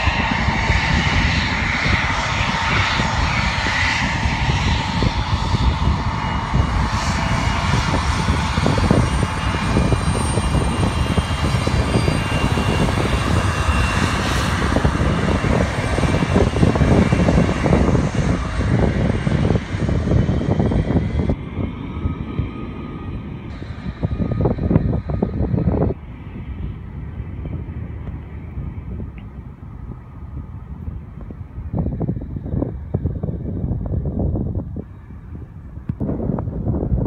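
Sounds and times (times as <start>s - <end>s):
jet engines roaring: 0.0s - 37.0s
wind buffeting microphone: 0.0s - 37.0s.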